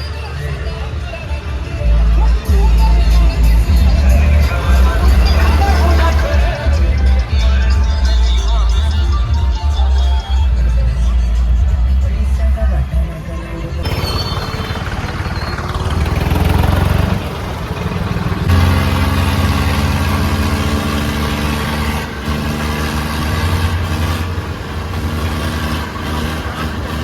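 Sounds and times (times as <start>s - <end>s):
tractor engine rumbling: 0.0s - 27.0s.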